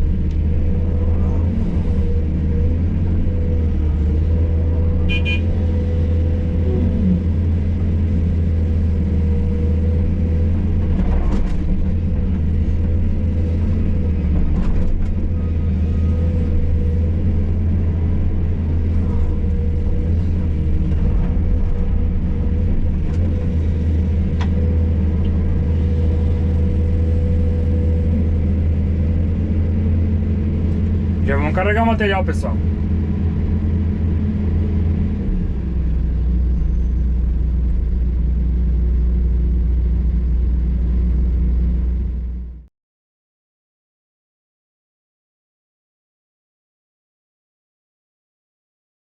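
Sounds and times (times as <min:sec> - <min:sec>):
excavator diesel engine running: 0:00.0 - 0:42.6.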